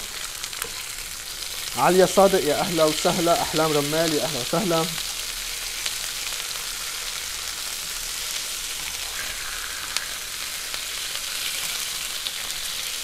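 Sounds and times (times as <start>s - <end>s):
meat sizzling in frying pan: 0.0s - 13.0s.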